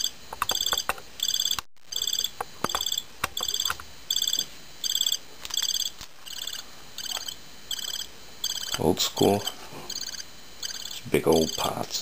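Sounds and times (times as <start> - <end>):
electronic cricket chirping: 0.0 - 11.9.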